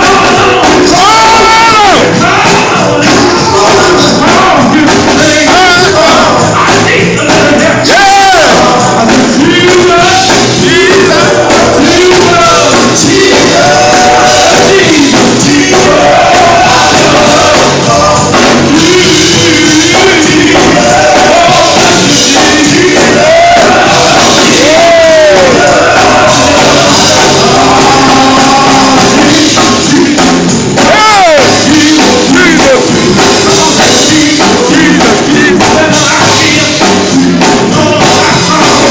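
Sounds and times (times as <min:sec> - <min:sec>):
band with steady percussion: 0:00.0 - 0:38.9
voices singing gospel: 0:00.0 - 0:38.9.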